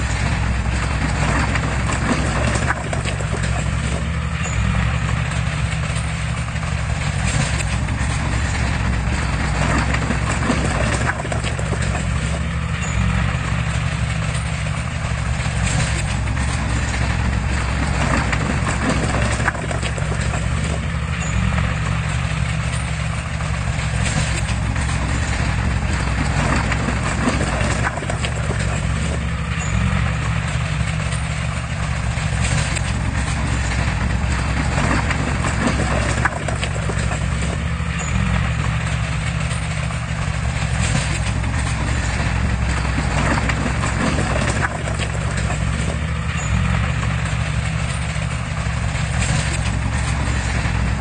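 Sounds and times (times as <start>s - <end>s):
diesel engine running: 0.0s - 51.0s
metallic knocks and clanks: 0.0s - 51.0s.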